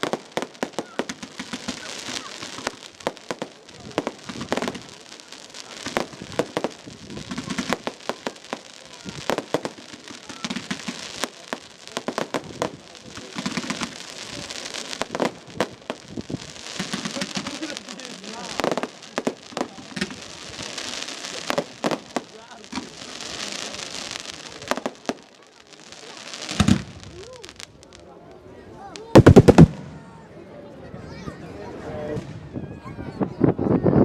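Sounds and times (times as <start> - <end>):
fireworks bangs and pops: 0.0 - 28.1, 28.9 - 30.2
fireworks crackling: 0.0 - 30.3.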